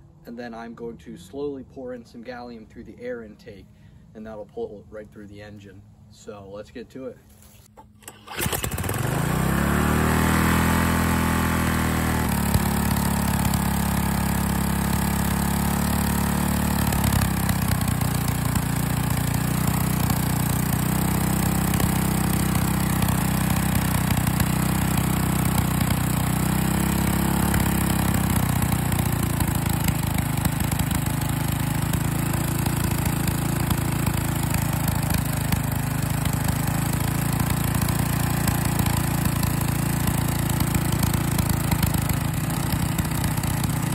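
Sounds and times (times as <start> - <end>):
small engine revving: 7.8 - 43.9.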